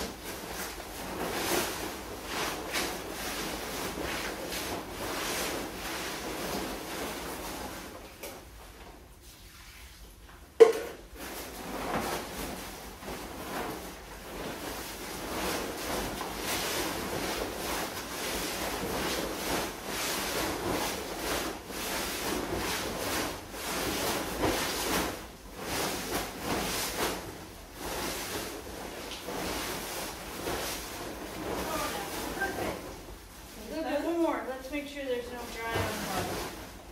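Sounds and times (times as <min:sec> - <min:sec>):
tarp rustling: 0:00.0 - 0:09.9, 0:11.1 - 0:36.9.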